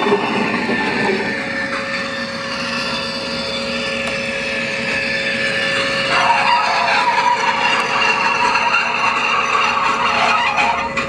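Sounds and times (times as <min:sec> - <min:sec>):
constant hum: 0:00.0 - 0:11.0
model locomotive whir: 0:00.0 - 0:11.0.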